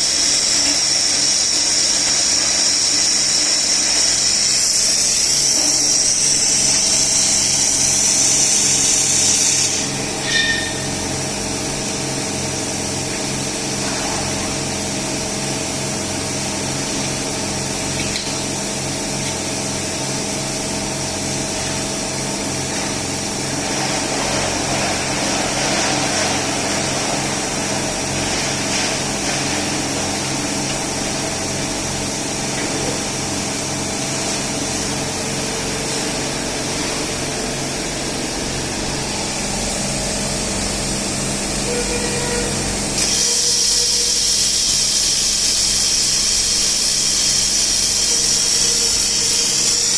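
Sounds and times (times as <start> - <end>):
machine mechanical hum: 0.0 - 49.9.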